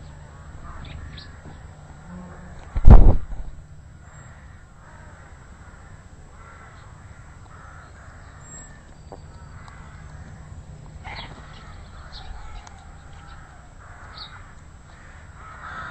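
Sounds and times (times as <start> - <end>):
rooks cawing: 0.0 - 2.8, 4.0 - 15.9
steady low hum: 0.0 - 15.9.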